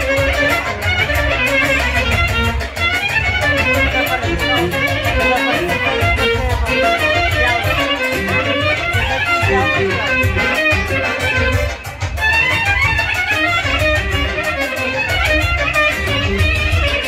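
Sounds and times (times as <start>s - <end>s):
loud dance music: 0.0s - 17.0s.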